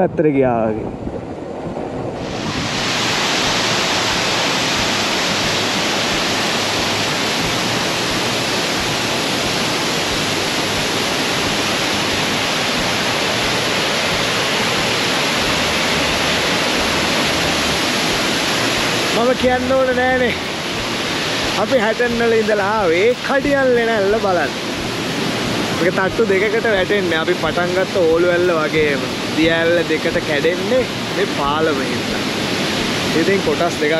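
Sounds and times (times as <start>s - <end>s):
waterfall rushing: 1.6s - 33.9s.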